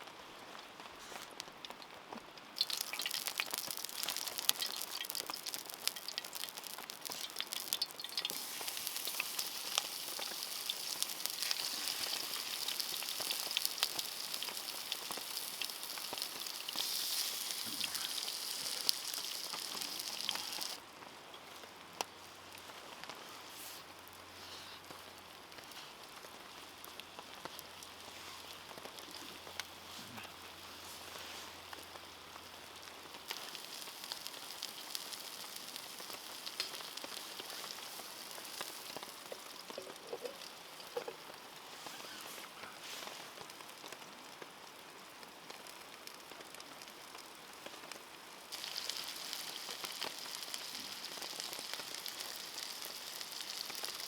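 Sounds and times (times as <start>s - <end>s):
rain pattering: 0.0s - 54.0s
food sizzling in a frying pan: 2.6s - 54.0s.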